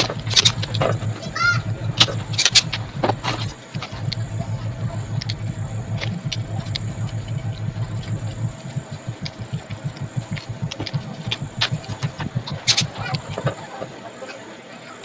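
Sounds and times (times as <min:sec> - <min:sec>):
engine idling: 0:00.0 - 0:14.1.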